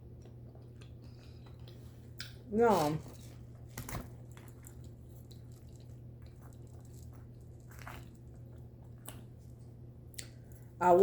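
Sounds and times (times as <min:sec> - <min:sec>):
steady low hum: 0:00.0 - 0:11.0
wet chewing: 0:00.2 - 0:10.6.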